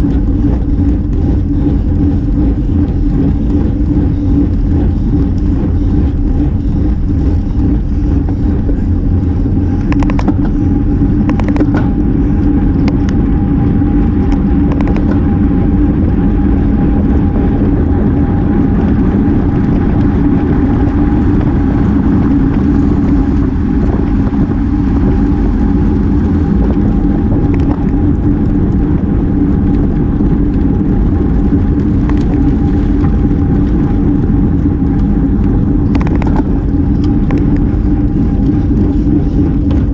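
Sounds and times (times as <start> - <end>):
bicycle road noise: 0.0 - 39.9
constant low hum: 0.0 - 39.9
wind rush: 0.0 - 39.9.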